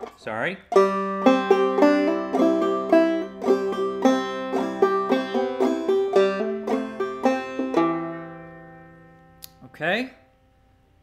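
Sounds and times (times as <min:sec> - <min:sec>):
banjo plucked notes and strums: 0:00.0 - 0:09.4.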